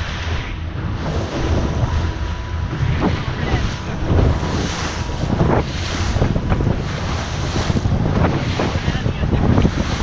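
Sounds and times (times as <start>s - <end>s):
hull slapping through waves: 0.0s - 10.0s
low engine drone: 0.0s - 10.0s
wind buffeting microphone: 0.0s - 10.0s.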